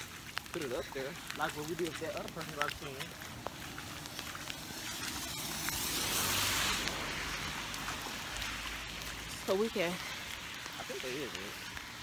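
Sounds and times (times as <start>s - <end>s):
raindrops ticking: 0.0s - 12.0s
steady rain falling: 0.0s - 12.0s.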